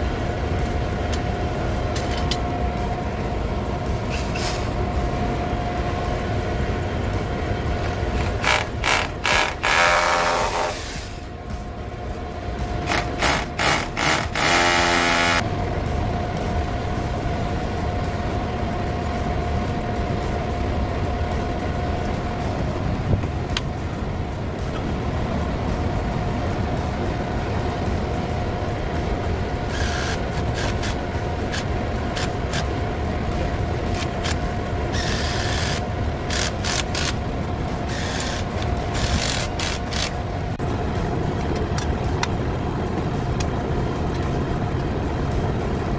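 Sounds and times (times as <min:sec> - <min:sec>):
exhaust fan rumble and hum: 0:00.0 - 0:45.9.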